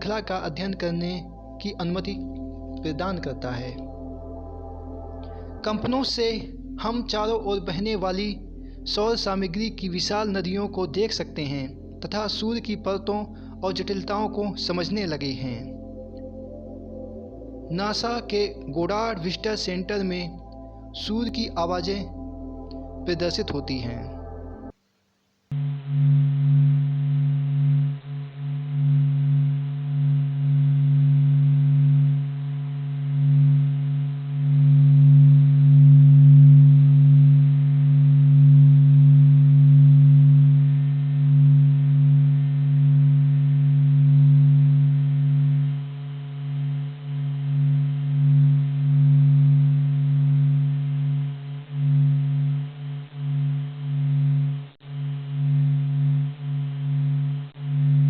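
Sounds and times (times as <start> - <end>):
deep held tones: 0.0 - 24.7, 25.6 - 58.0.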